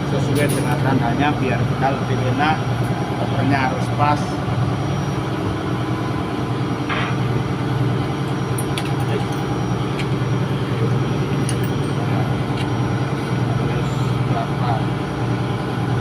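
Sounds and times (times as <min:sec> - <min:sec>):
ship diesel engine hum: 0:00.0 - 0:16.0.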